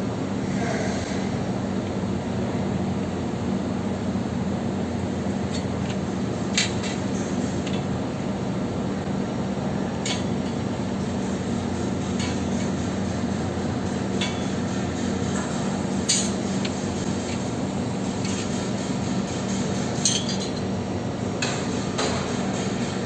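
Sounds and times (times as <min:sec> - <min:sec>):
machine hum with low drone: 0:00.0 - 0:23.0.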